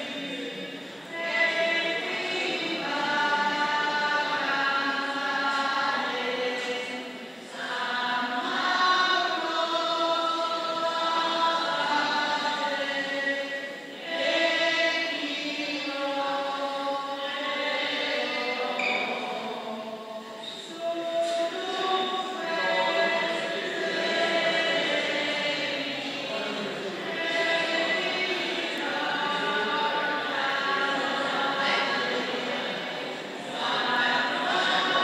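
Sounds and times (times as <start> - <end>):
group singing a hymn: 0.0 - 35.0.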